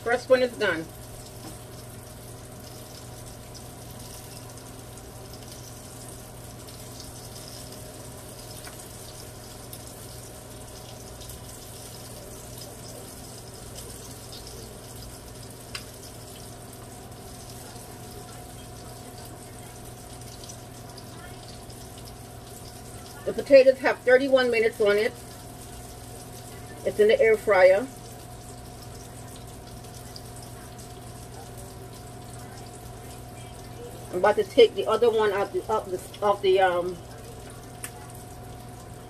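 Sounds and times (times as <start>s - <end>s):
fish sizzling in hot oil: 0.0s - 39.0s
steady low hum: 0.0s - 39.0s.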